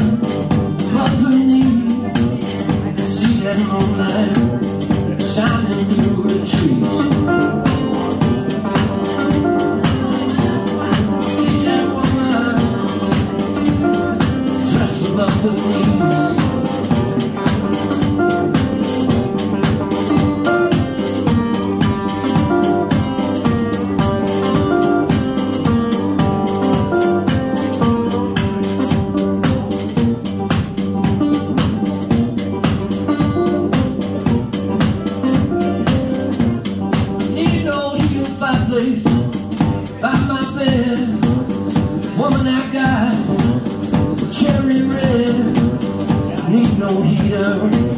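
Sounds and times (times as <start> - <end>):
steady drum beat: 0.0 - 47.9.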